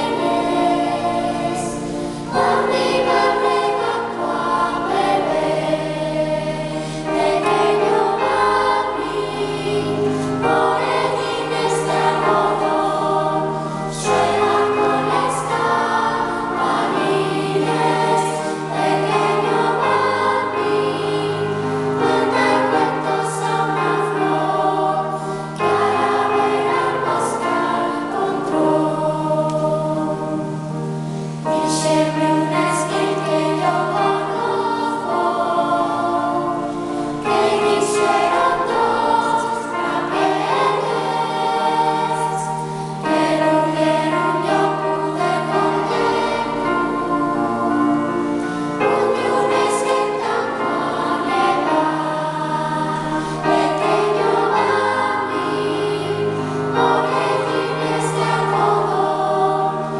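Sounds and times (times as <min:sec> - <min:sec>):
children's choir singing: 0:00.0 - 0:59.9
piano accompaniment: 0:00.0 - 0:59.9.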